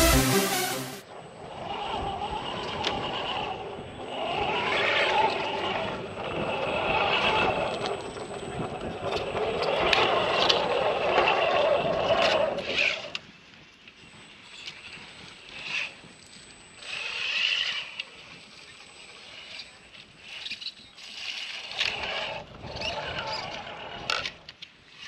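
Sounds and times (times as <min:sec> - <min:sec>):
electric toy truck motor whining: 0:00.0 - 0:25.0.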